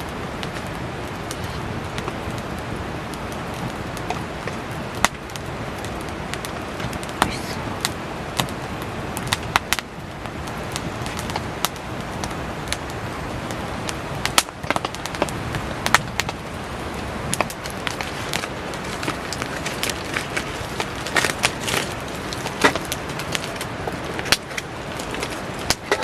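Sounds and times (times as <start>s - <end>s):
campfire crackling and popping: 0.0s - 26.0s
heavy rain: 0.0s - 26.0s.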